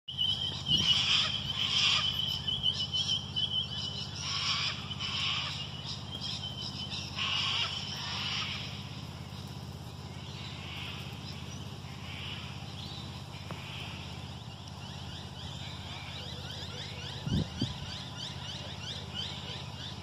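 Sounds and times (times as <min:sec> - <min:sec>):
harsh bird calls: 0:00.1 - 0:20.0
steady low hum: 0:00.1 - 0:20.0.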